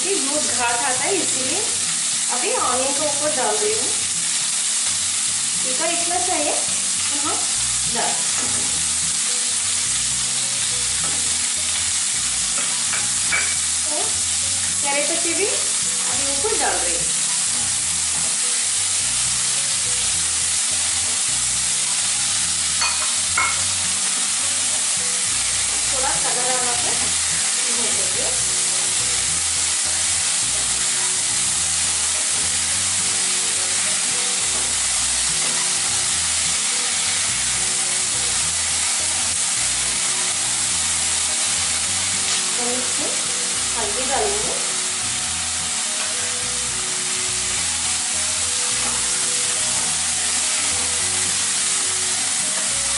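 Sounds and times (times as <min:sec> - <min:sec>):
onions sizzling in a pan: 0:00.0 - 0:52.9.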